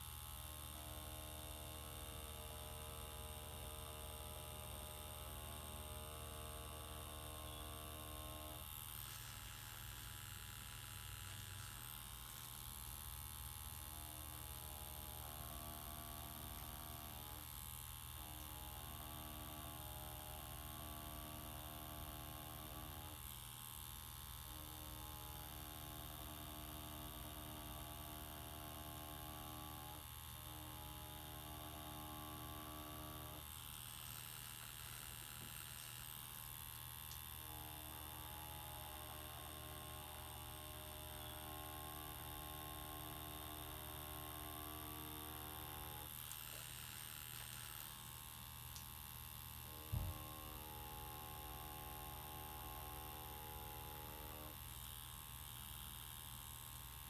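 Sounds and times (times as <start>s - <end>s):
tattoo machine humming: 0.0s - 57.0s.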